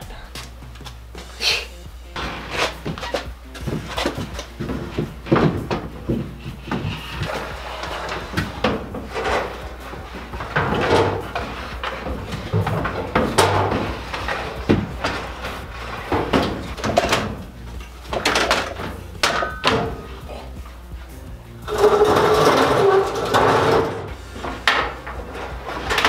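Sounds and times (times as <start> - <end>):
wood knocking and bumping: 2.2 - 26.0
wood scraping against door frame: 2.2 - 26.0.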